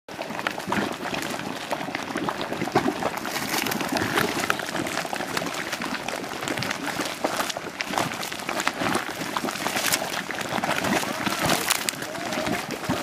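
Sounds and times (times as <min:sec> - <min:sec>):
mud plopping and popping: 0:00.1 - 0:13.0
steady bubbling: 0:00.1 - 0:13.0.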